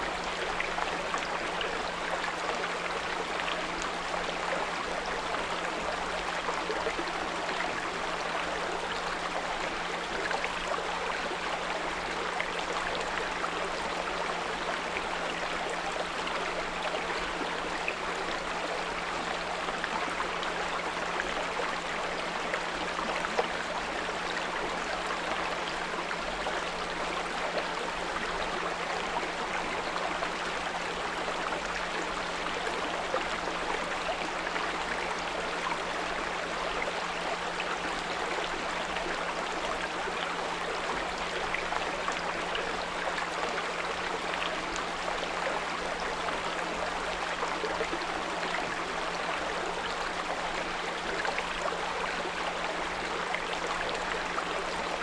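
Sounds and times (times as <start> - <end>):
small brook flowing: 0.0 - 55.0.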